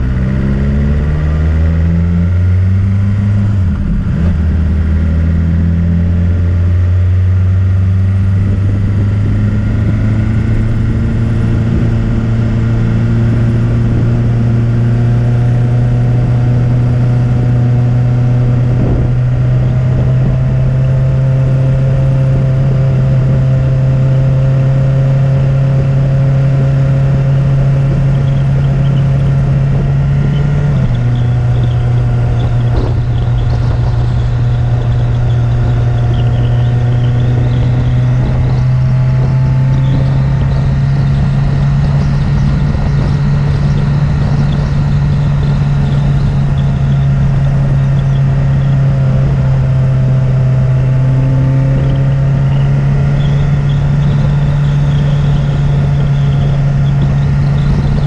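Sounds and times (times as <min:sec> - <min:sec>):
road noise: 0:00.0 - 0:58.0
vehicle engine running: 0:00.0 - 0:58.0
wind noise: 0:00.0 - 0:58.0.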